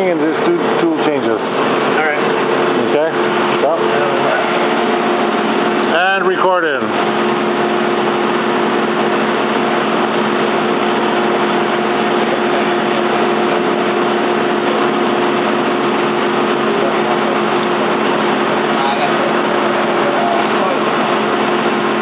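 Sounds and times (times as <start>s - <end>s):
lathe machine hum: 0.0s - 22.0s.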